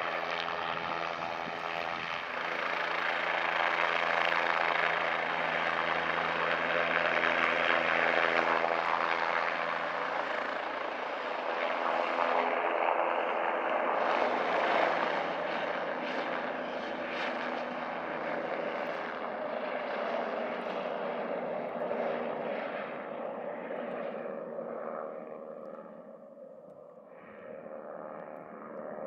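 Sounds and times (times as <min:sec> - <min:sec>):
helicopter engine whine: 0:00.0 - 0:29.0
helicopter rotor noise: 0:00.0 - 0:29.0.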